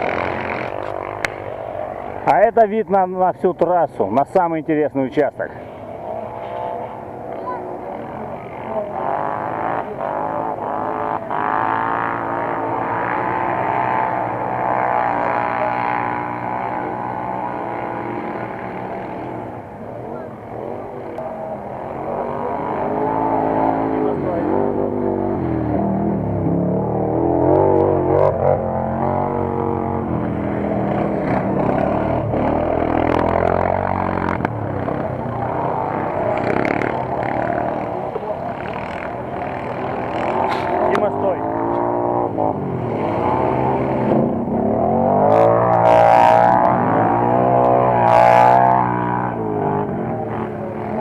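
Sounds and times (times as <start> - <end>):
off-road vehicle engines revving: 0.0 - 51.0.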